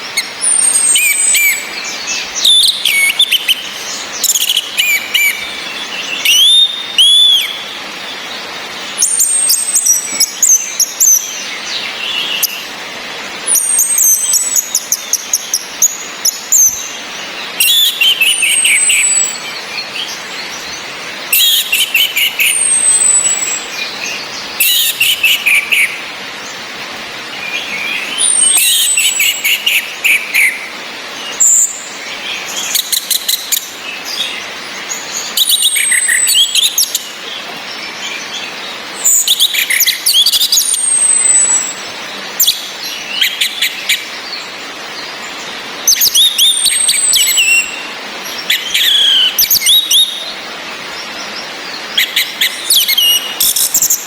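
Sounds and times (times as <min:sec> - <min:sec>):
rain hiss: 0:00.0 - 0:54.0
thrushes calling and singing: 0:00.0 - 0:54.0.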